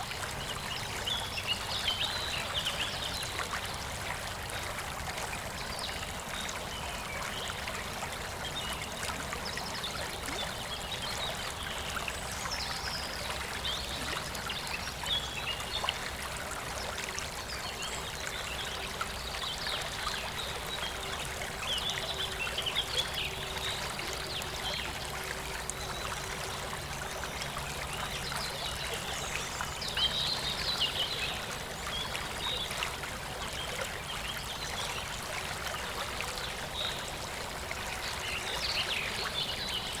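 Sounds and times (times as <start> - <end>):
stream trickling over stones: 0.0 - 40.0.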